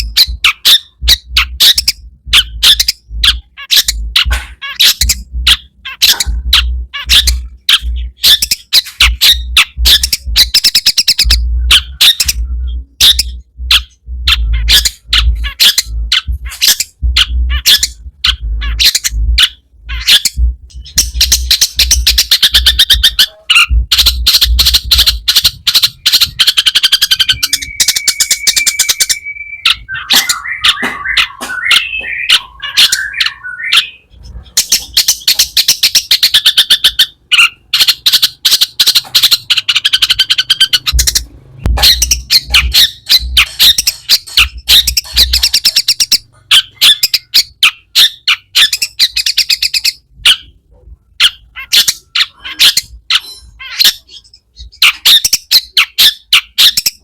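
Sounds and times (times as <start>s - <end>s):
low hum: 0.0s - 46.8s
shrike singing chattering song: 0.0s - 57.0s.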